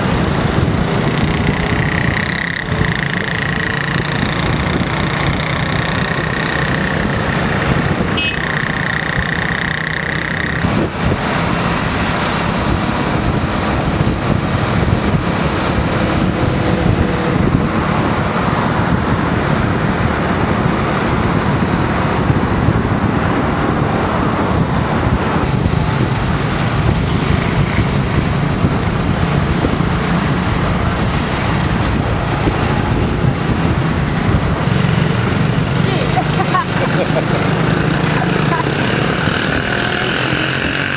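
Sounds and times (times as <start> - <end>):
road noise: 0.0 - 40.9
vehicle engine: 0.0 - 40.9.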